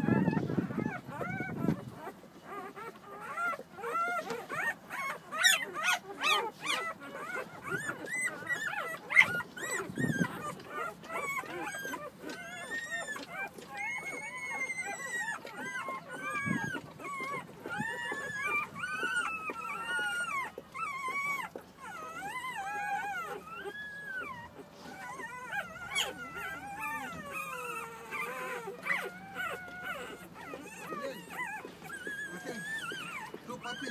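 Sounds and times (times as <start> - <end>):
puppies crying and squealing: 0.0 - 33.9.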